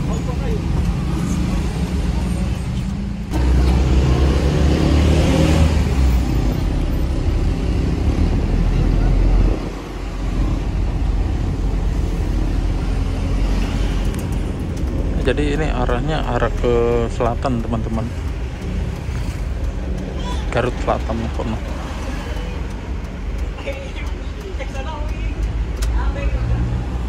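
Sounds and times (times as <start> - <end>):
minibus engine and road noise: 0.0 - 27.0.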